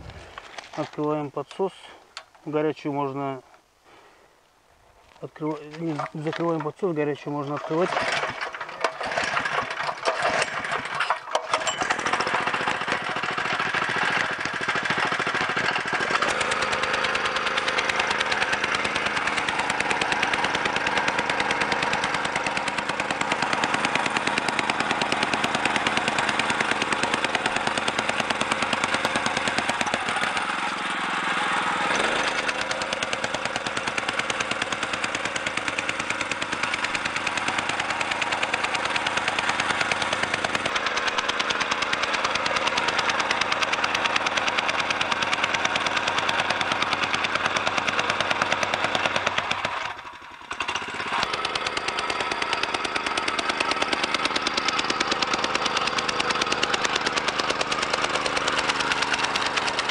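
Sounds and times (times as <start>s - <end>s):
rammer pounding gravel: 0.0s - 4.1s, 4.8s - 59.9s
petrol engine running: 5.2s - 59.9s.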